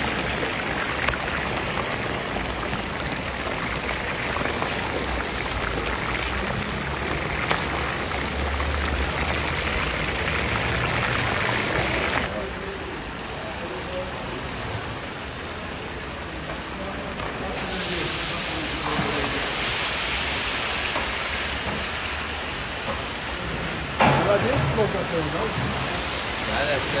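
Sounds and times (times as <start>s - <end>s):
meat sizzling in deep oil: 0.0s - 12.3s, 17.1s - 27.0s.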